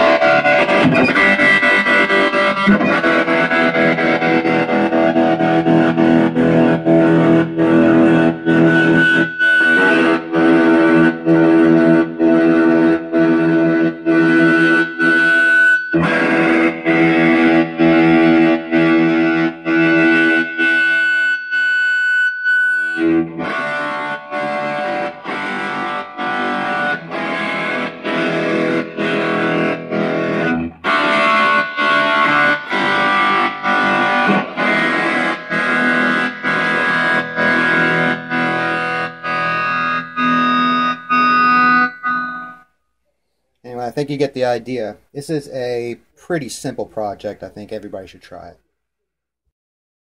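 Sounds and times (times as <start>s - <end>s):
electric guitar chords strummed: 0.0s - 42.7s.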